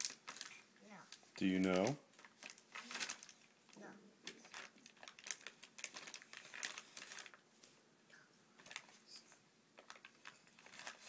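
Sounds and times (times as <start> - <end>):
rustling of fabric and packets: 0.0 - 7.8, 8.5 - 11.0.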